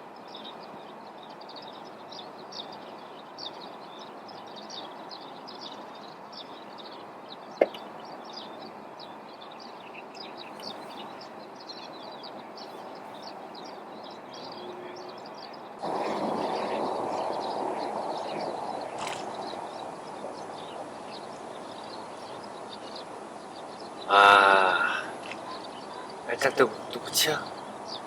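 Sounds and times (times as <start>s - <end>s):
outdoor background hiss: 0.0s - 28.0s
small birds chirping: 0.0s - 28.0s.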